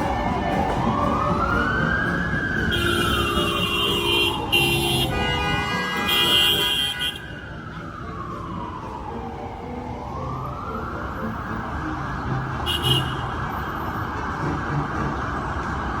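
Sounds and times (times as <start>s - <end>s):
emergency siren wailing: 0.0s - 16.0s
street traffic: 0.0s - 16.0s.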